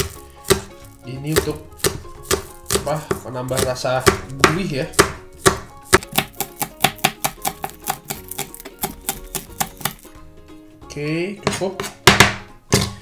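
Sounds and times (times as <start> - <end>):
knife chopping on plastic board: 0.0 - 10.1, 11.4 - 13.0
soft background music: 0.0 - 13.0.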